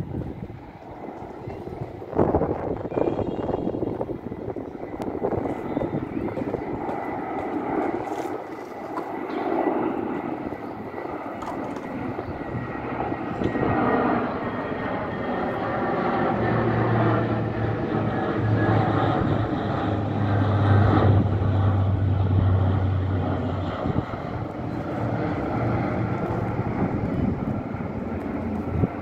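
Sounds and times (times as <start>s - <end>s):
low hum: 0.0s - 29.0s
plane engines droning: 0.0s - 29.0s.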